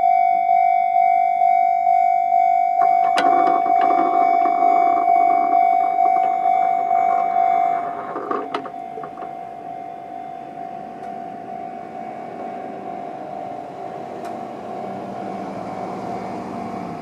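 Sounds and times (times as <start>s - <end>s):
level-crossing alarm tone: 0.0s - 13.7s.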